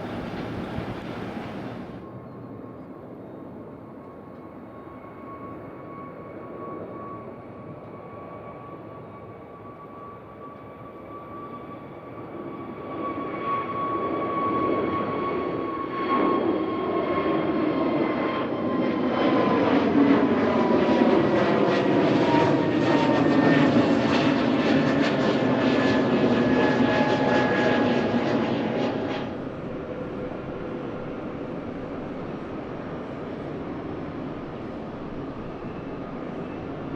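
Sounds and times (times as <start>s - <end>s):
jet airliner passing: 0.0s - 36.9s.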